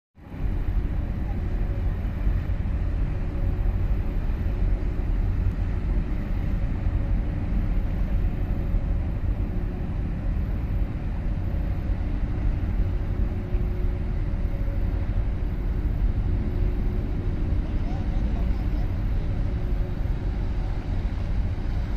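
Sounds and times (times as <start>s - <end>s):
faint constant hum: 0.2s - 21.9s
low engine rumble: 0.2s - 21.9s.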